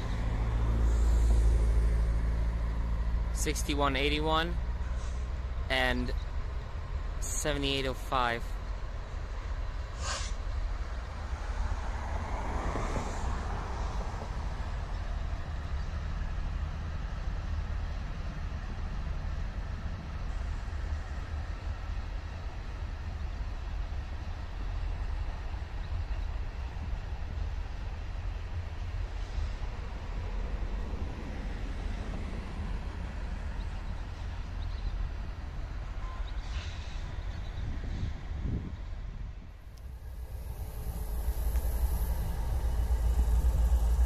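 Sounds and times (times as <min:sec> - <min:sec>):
distant freight train rumbling: 0:00.0 - 0:44.0.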